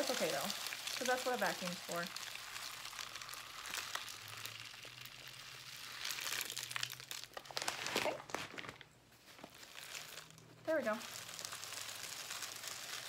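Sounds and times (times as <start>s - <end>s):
plastic bag crinkling: 0.0s - 13.0s
seeds pattering into bottle: 0.0s - 13.0s.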